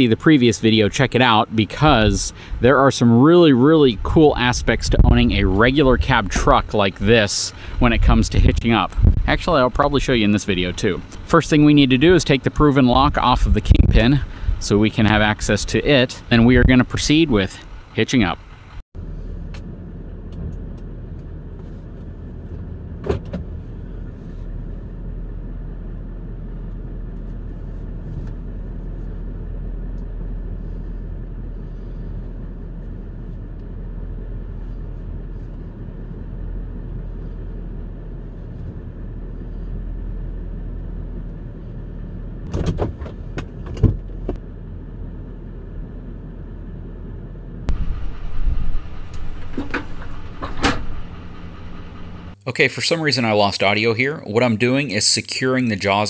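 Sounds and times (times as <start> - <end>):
muffled truck engine rumble: 0.0 - 52.4.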